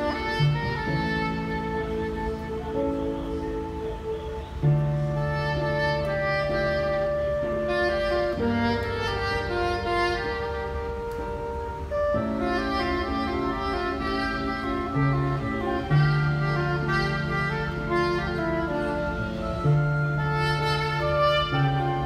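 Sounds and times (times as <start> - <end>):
backing track with strings and bass: 0.0 - 22.0
soprano saxophone melody: 0.0 - 22.0.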